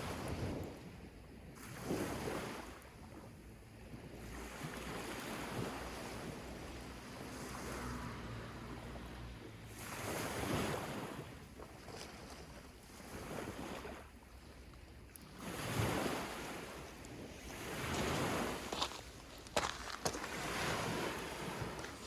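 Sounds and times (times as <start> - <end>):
waves washing onto beach: 0.0 - 22.0.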